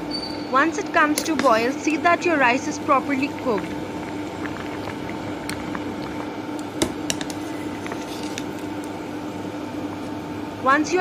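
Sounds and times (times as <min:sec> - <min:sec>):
pot of rice boiling: 0:01.2 - 0:10.6.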